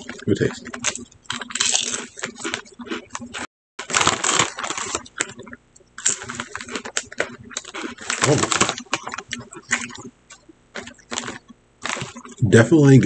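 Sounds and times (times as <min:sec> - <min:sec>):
man chewing potato chips: 0:00.0 - 0:12.5.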